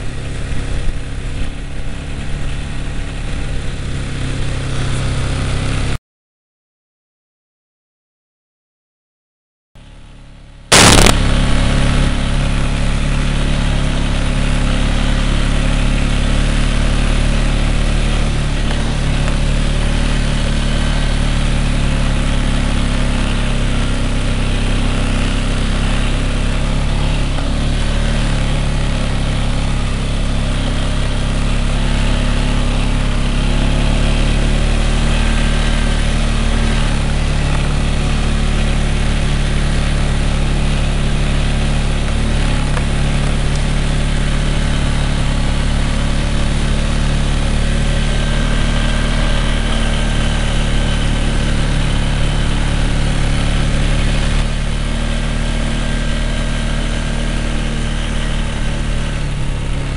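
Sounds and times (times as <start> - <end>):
atv engine running: 0.0 - 6.0, 9.8 - 59.9
rushing noise: 10.7 - 59.9.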